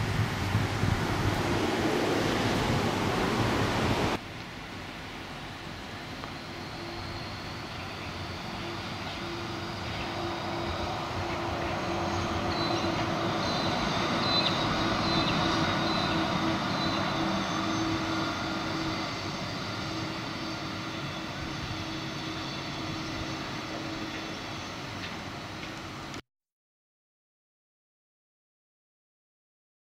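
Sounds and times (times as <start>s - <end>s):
low hum: 0.0s - 26.2s
tram passing: 0.0s - 26.2s.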